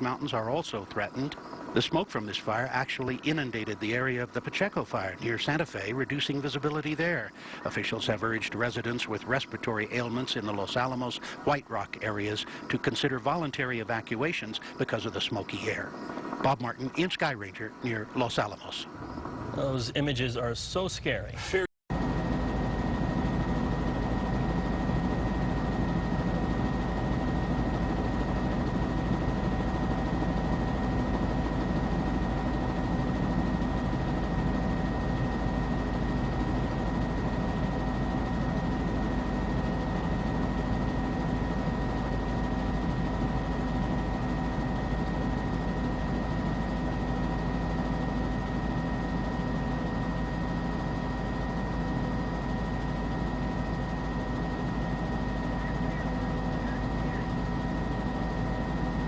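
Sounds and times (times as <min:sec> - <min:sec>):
helicopter engine and rotor drone: 0:00.0 - 0:20.5, 0:21.5 - 0:59.0.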